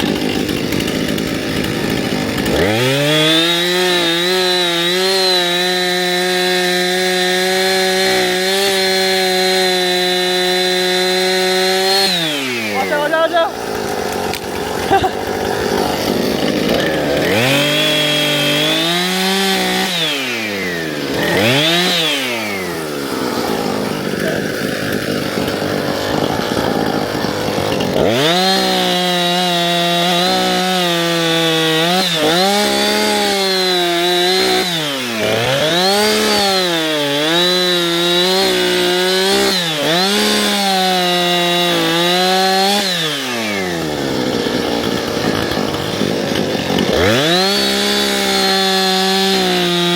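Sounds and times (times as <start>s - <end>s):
two-stroke engine revving: 0.0s - 49.9s.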